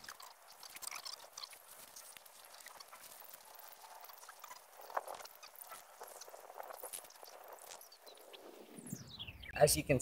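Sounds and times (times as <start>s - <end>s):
clothing and leather rustling: 0.0s - 8.7s.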